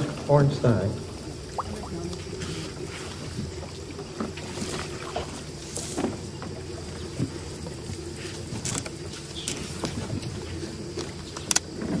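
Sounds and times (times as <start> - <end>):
water: 0.0 - 12.0
wind: 0.0 - 12.0
paddle splashing water: 1.0 - 11.2.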